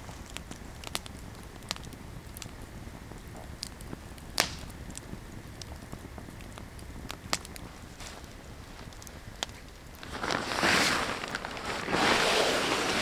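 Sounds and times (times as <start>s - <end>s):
campfire crackling: 0.0s - 13.0s
sharp pops of fire: 0.0s - 13.0s.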